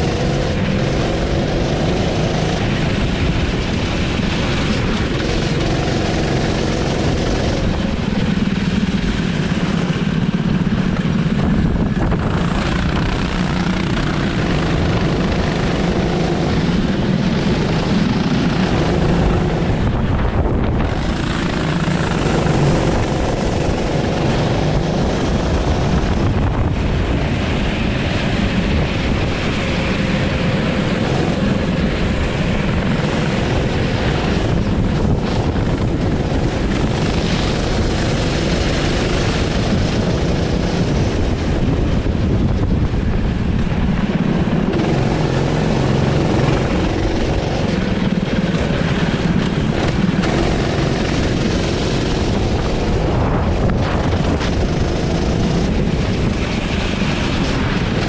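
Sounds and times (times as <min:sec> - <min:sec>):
go-kart engine buzzing: 0:00.0 - 0:58.0.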